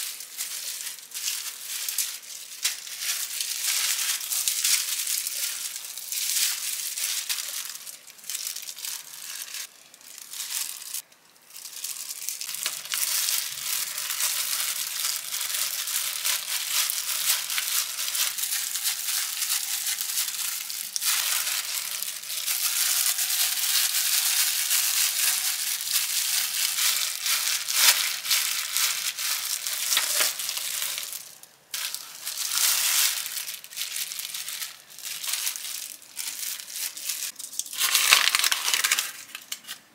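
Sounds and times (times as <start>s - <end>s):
plastic gloves crinkling: 0.0s - 39.9s.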